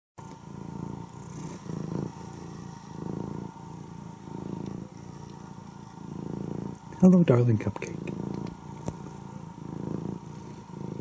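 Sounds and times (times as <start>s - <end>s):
cat purring: 0.2s - 11.0s.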